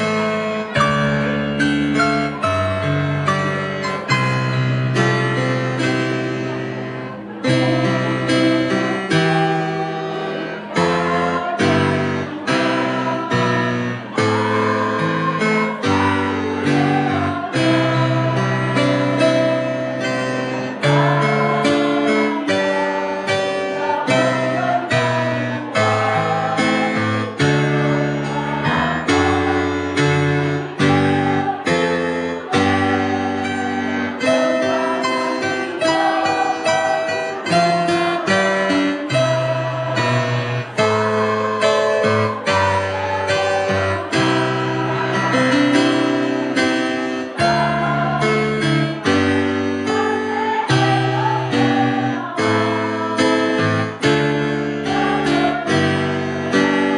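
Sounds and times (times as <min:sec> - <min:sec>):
choir singing with accompaniment: 0:00.0 - 0:56.9.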